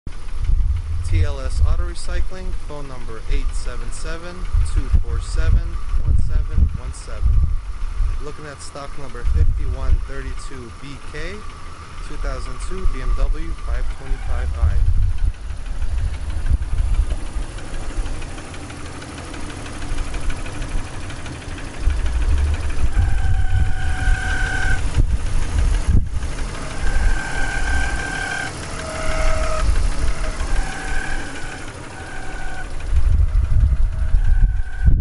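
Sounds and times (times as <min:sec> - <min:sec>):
car engine idling: 0:00.0 - 0:35.0
short high whining tones: 0:00.4 - 0:35.0.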